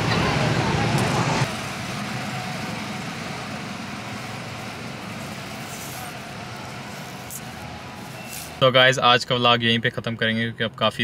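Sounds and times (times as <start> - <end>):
outdoor ambient noise: 0.0 - 11.0.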